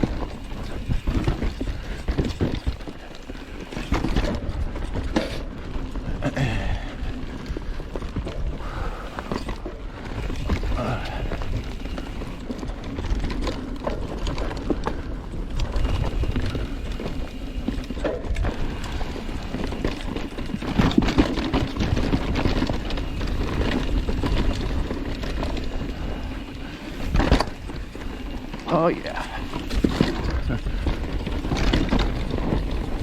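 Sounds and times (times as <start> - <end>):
bike frame and chain rattling: 0.0 - 33.0
bike tyres crunching on rocky dirt: 0.0 - 33.0.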